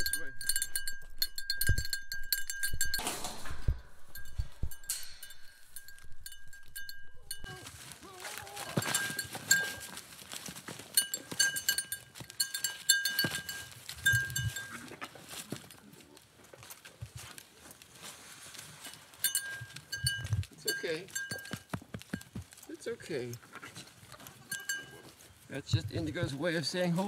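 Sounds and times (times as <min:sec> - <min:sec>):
goat bell clinking: 0:00.0 - 0:15.9, 0:18.6 - 0:27.0
goats butting heads: 0:00.0 - 0:22.8.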